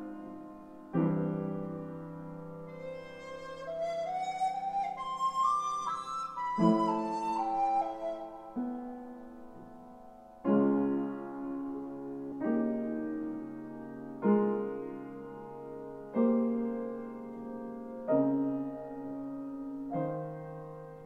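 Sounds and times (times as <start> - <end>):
piano playing slow chords: 0.0 - 21.0.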